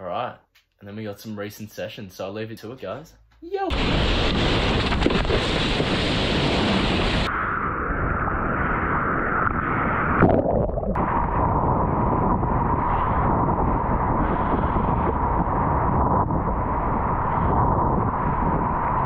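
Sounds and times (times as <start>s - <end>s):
wind buffeting microphone: 3.7s - 19.0s.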